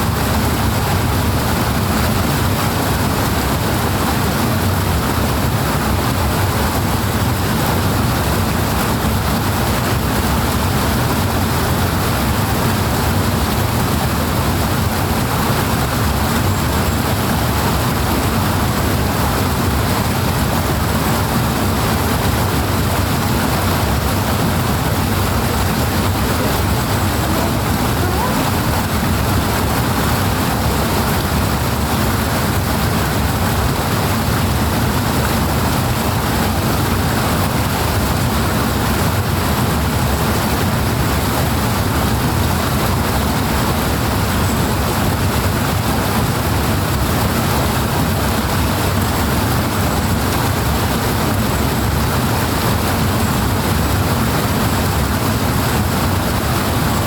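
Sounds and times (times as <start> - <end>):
powerful rushing water: 0.0 - 57.0.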